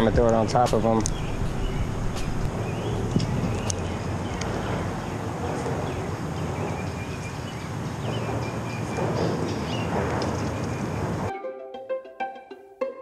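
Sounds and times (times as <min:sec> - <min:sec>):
traffic rumble on bridge: 0:00.0 - 0:11.3.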